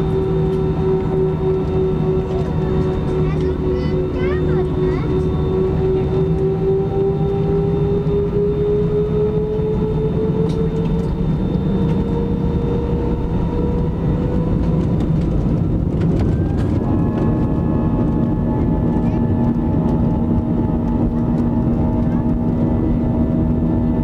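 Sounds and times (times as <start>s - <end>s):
higher engine tones: 0.0s - 24.0s
jet engine rumble and whine: 0.0s - 24.0s.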